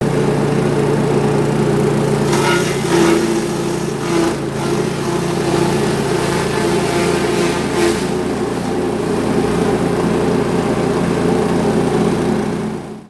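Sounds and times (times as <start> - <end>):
grass chopper motor humming: 0.0 - 13.0.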